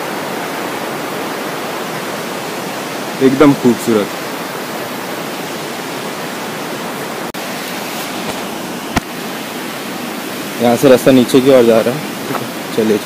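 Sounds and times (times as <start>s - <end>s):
waterfall stream rushing: 0.0s - 13.0s.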